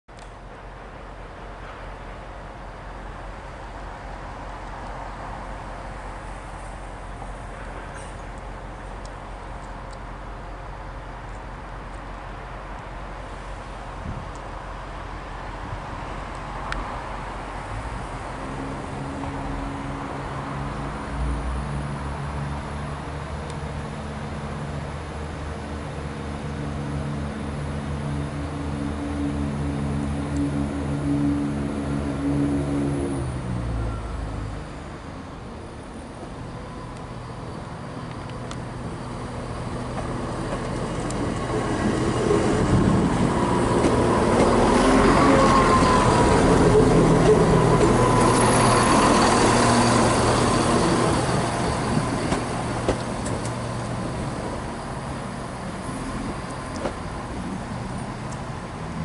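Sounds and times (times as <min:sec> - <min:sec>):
diesel train engine: 0:00.1 - 0:59.0
train passing with whine: 0:00.2 - 0:59.0.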